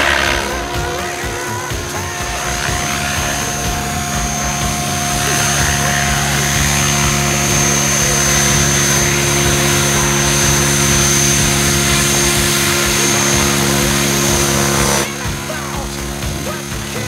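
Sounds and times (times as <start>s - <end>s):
high steady whine: 0.0s - 17.0s
rc helicopter rotor: 0.0s - 17.0s.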